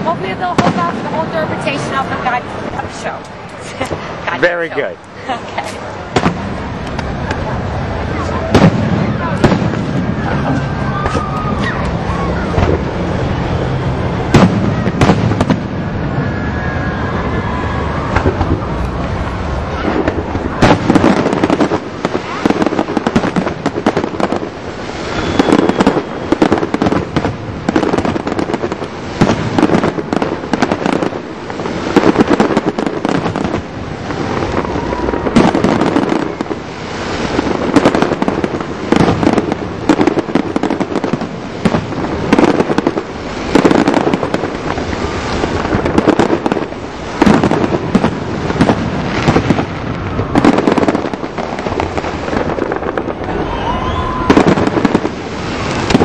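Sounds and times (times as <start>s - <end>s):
fireworks booming and crackling: 0.0s - 56.0s.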